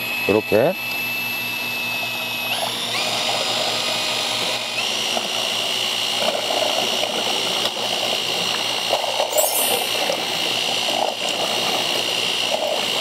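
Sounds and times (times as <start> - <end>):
mixer drill motor whine: 0.0 - 13.0.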